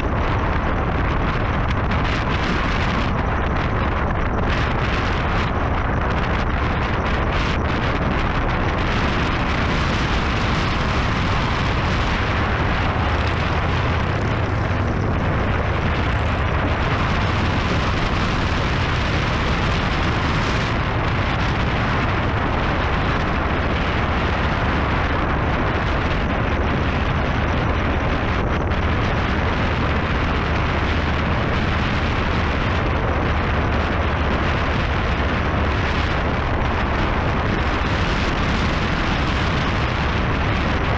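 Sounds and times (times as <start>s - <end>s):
motorcycle engine running: 0.0s - 40.9s
wind rushing on microphone: 0.0s - 40.9s.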